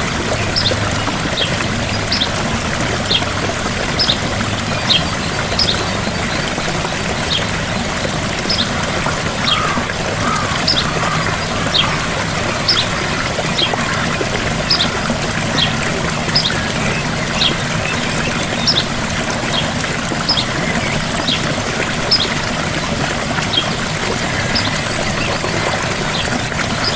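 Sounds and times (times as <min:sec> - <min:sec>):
waterfall pouring: 0:00.0 - 0:26.9.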